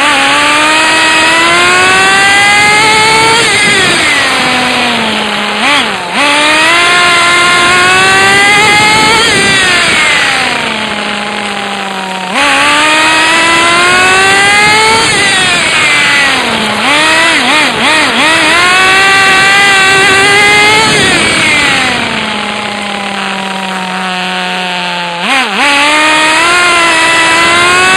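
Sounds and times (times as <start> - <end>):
toy car motor revving: 0.0 - 27.9.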